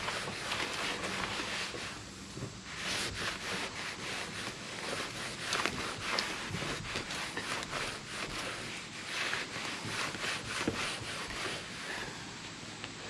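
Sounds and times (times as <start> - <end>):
towel rubbing over car hood: 0.0 - 12.3.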